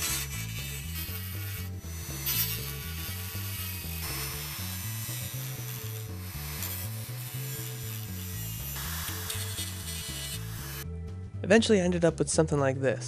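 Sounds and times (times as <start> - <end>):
rotary tool grinding steel: 0.0 - 10.8.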